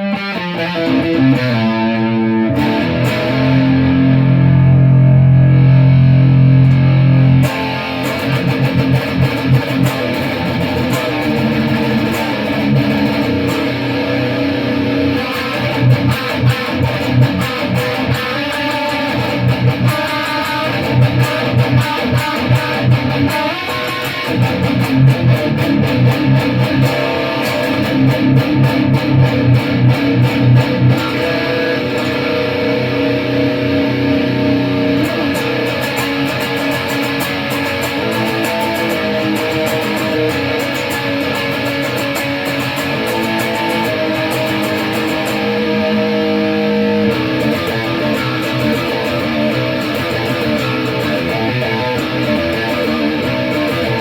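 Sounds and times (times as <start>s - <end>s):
electric guitar riffing: 0.0s - 54.0s.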